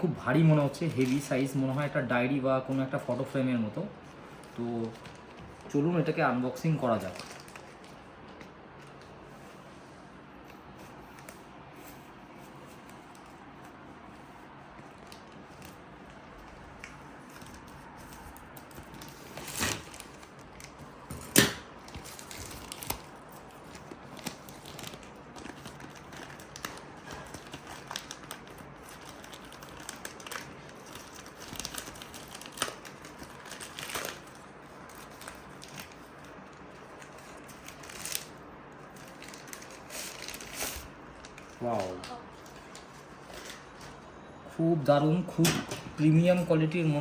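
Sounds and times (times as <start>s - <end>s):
packaging crinkling and tearing: 0.3s - 3.4s, 4.2s - 9.2s, 10.6s - 44.0s.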